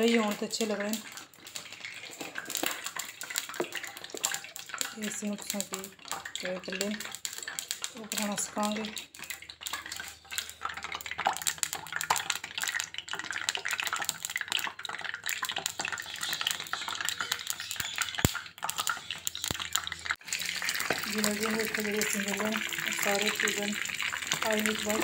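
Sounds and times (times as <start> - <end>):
batter sizzling in hot oil: 0.0 - 25.0.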